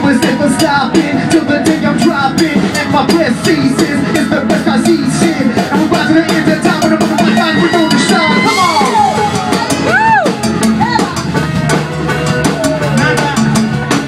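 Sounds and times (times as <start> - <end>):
drum kit beat: 0.0 - 14.0
live band playing hip hop: 0.0 - 14.0.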